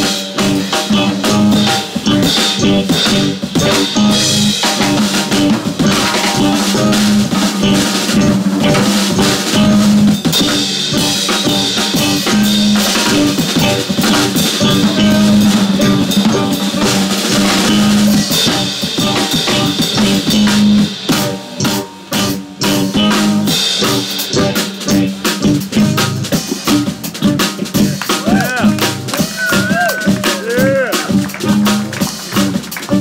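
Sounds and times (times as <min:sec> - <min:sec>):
drum kit playing: 0:00.0 - 0:33.0
electric bass: 0:00.0 - 0:33.0
electric guitar: 0:00.0 - 0:33.0.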